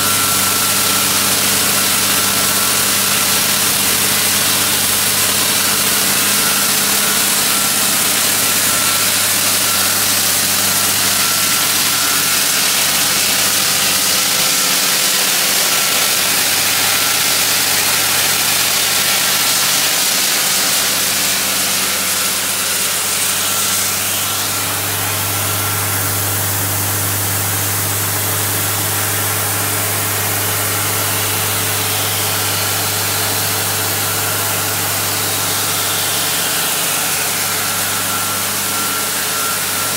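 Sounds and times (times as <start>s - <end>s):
drill rig low mechanical hum: 0.0s - 39.9s.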